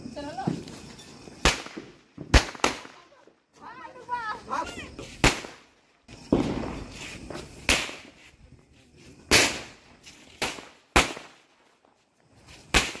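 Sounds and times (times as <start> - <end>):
firecrackers banging: 0.3 - 8.5, 9.2 - 11.9, 12.5 - 13.0.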